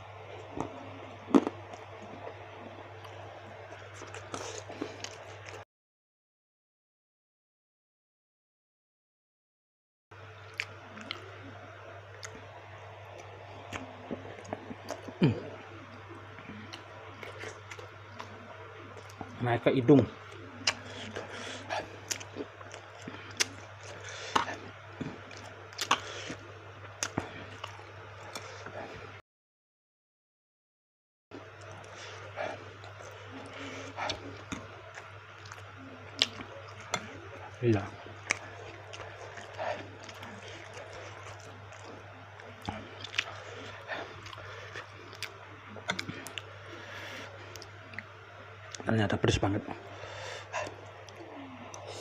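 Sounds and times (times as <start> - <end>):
steady low hum: 0.0 - 5.6, 10.2 - 29.2, 31.3 - 52.0
person chewing food: 0.2 - 5.6, 10.4 - 11.5, 12.1 - 19.4, 20.2 - 29.2, 31.4 - 48.8, 49.8 - 52.0.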